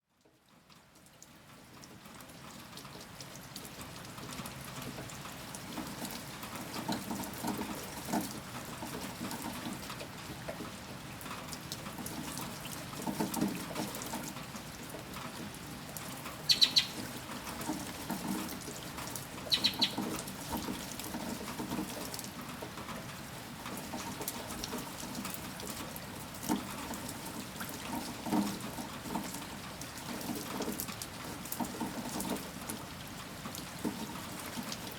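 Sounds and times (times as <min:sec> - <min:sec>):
steady rain: 0:00.1 - 0:34.9
drips splashing on surface: 0:00.7 - 0:34.9.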